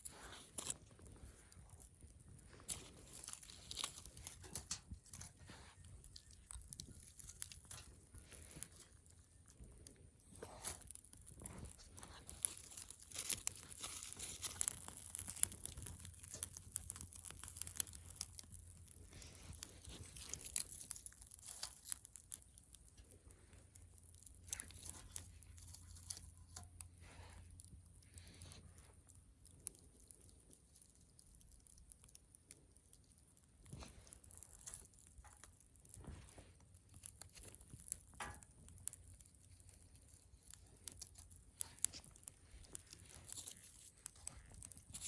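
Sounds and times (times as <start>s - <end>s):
rustling and tearing: 0.0s - 45.0s
sharp clicks and crinkles: 0.0s - 45.0s.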